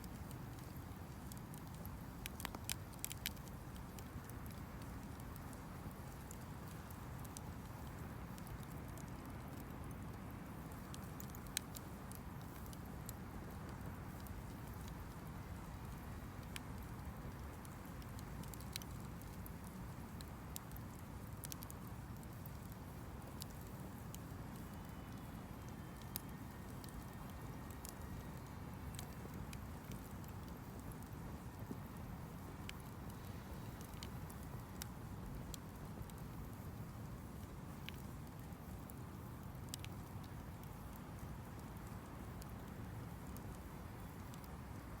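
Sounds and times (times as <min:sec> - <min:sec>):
campfire crackling: 0:00.0 - 0:45.0
low steady fire rumble: 0:00.0 - 0:45.0.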